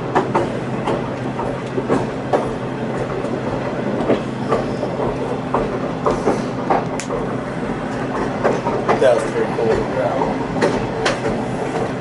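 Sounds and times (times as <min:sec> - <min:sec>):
train low drone: 0:00.0 - 0:12.0
train wheels clicking over rail joints: 0:00.0 - 0:12.0.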